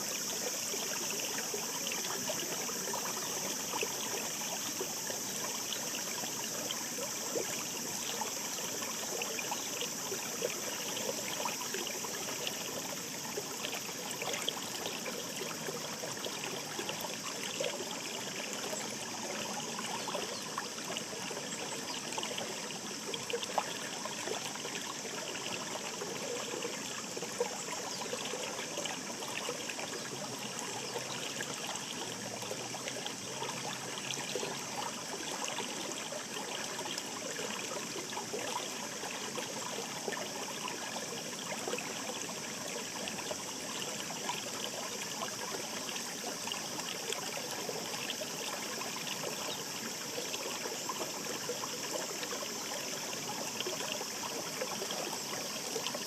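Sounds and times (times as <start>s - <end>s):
babbling shallow stream: 0.0s - 56.0s.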